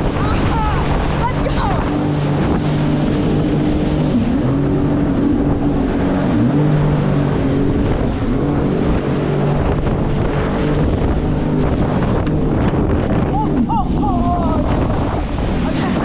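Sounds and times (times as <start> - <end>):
jet ski engine running: 0.0 - 16.0
wind rushing over microphone: 0.0 - 16.0.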